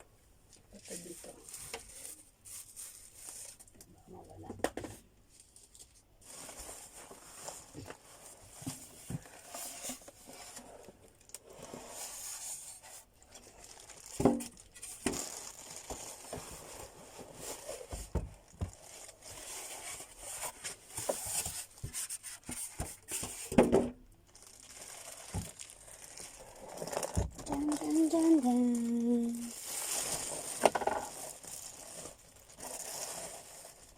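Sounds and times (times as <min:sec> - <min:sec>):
packaging crinkling and rustling: 0:00.5 - 0:03.9, 0:05.3 - 0:23.6, 0:24.2 - 0:33.9.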